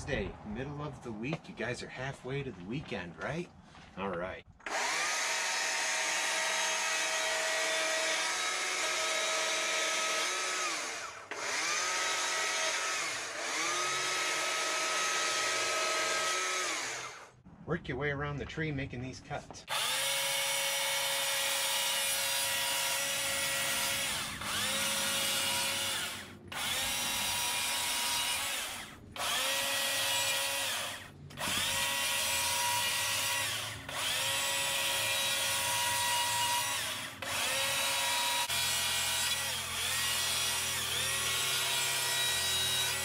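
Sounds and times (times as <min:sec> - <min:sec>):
chainsaw cutting wood: 0:04.6 - 0:17.4, 0:19.7 - 0:43.0.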